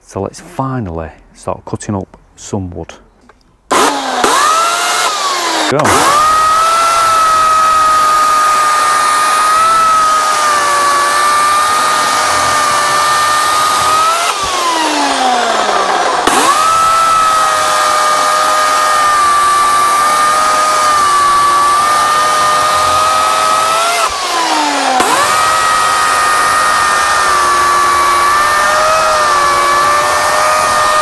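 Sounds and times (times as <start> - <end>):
electric chainsaw cutting log: 3.7 - 31.0.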